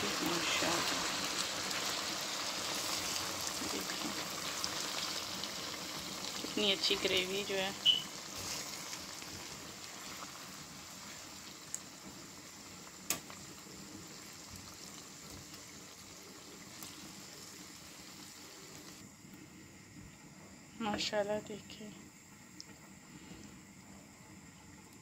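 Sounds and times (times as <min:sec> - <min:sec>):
gravy bubbling and sizzling: 0:00.0 - 0:25.0.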